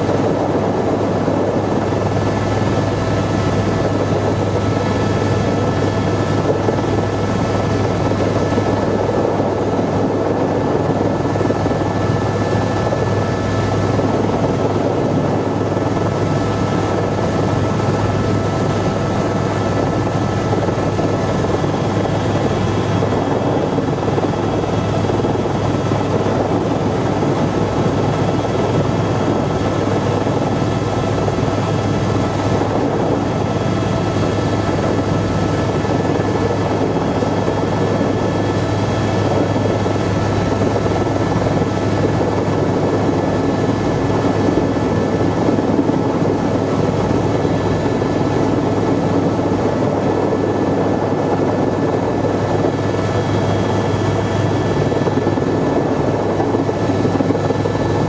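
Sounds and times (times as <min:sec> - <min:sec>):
helicopter rotor drone: 0:00.0 - 0:58.0.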